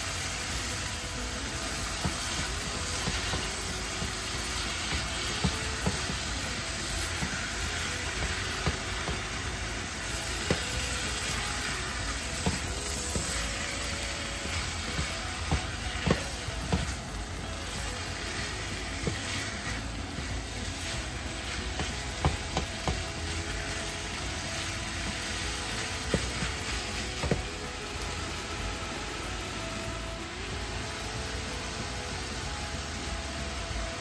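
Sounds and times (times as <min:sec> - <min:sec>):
meat sizzling in a pan: 0:00.0 - 0:34.0.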